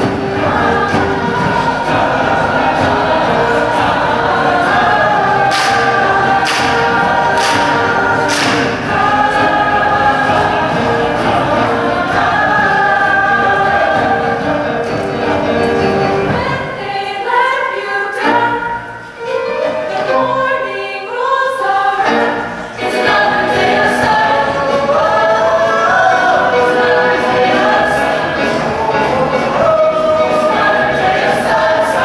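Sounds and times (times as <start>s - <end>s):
choir singing in harmony: 0.0s - 32.0s.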